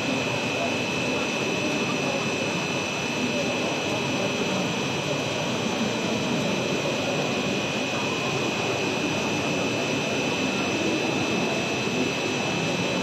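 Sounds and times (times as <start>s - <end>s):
high-pitched machine whines: 0.0s - 13.0s
steady machine drone: 0.0s - 13.0s.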